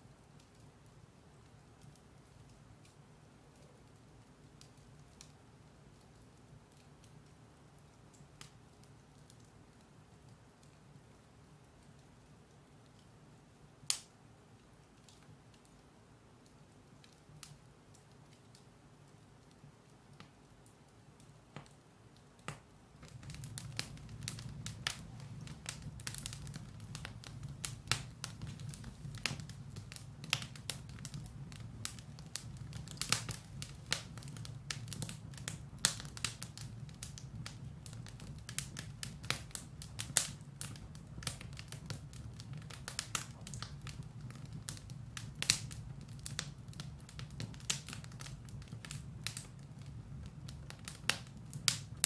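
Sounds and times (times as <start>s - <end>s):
firewood crackling and popping: 0.0s - 52.0s
low rumble of flames: 0.0s - 52.0s.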